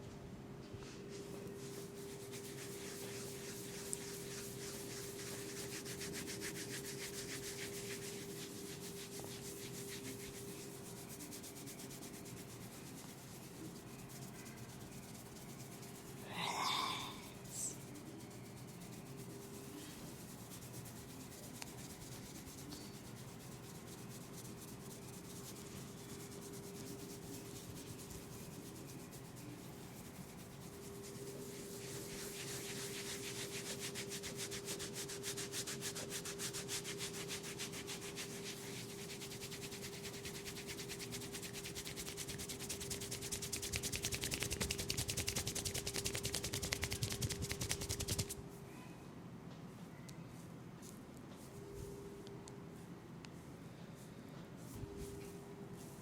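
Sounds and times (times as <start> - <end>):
hands rubbing hair and scalp: 0.8 - 48.4.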